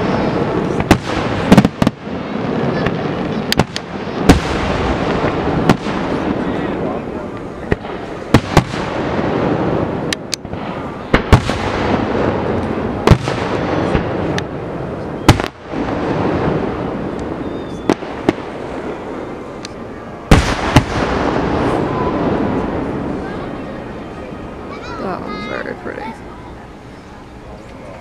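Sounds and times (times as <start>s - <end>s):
firework shells bursting: 0.0s - 23.2s
rumble of firework bursts: 0.0s - 28.0s.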